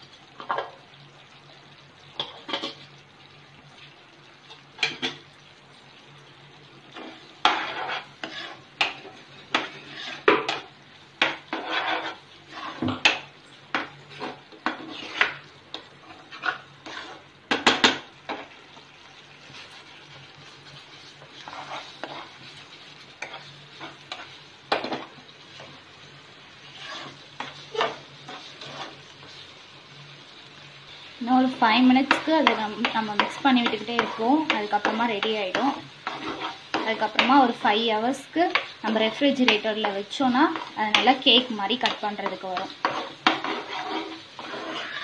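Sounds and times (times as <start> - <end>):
spoon scraping a pan: 2.2 - 2.9, 4.4 - 5.3, 6.9 - 18.6, 19.4 - 25.9, 26.5 - 29.7, 30.9 - 45.0.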